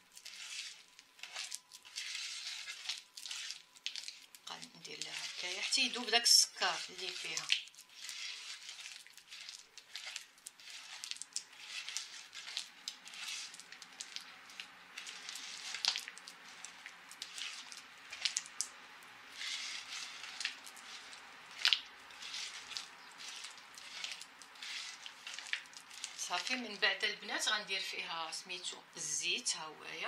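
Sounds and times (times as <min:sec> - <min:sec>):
hands squishing butter: 0:00.0 - 0:26.6.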